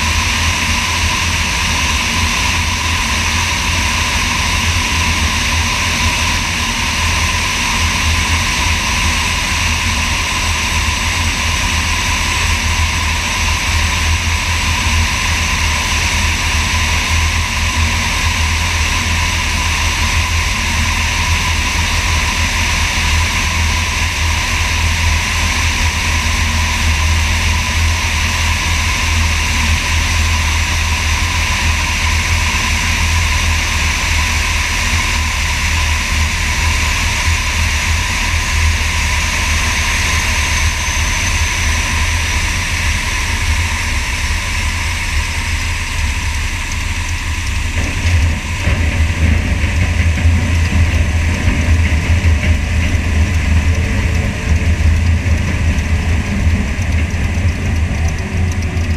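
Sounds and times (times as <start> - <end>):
propeller engine drone: 0.0 - 58.9
wind rumbling over camera: 0.0 - 58.9.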